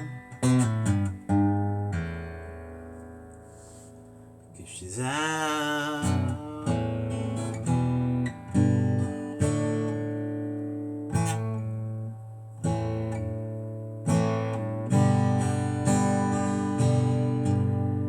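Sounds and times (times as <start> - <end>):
slow strummed guitar chords: 0.0 - 18.0.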